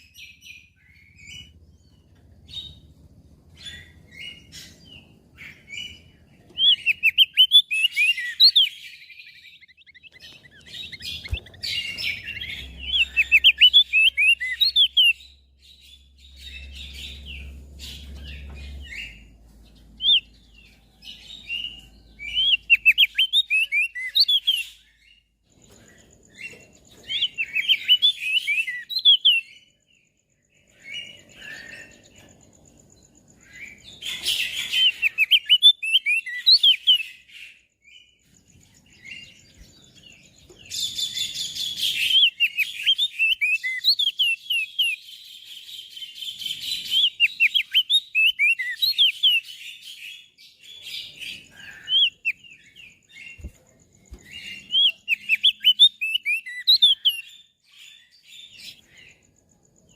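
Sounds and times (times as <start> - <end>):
bird twittering: 0.0 - 29.8, 30.6 - 59.3.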